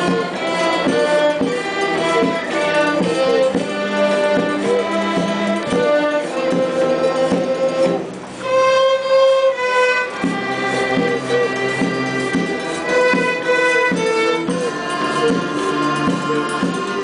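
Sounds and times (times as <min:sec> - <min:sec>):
violins and cellos bowing a melody: 0:00.0 - 0:17.0.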